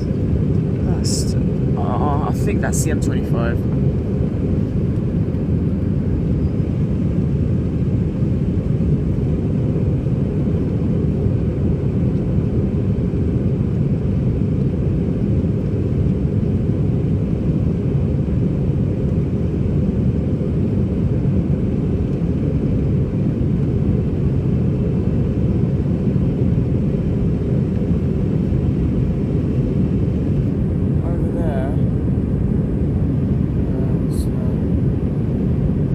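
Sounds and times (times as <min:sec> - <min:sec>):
airplane cabin engine roar: 0:00.0 - 0:35.9.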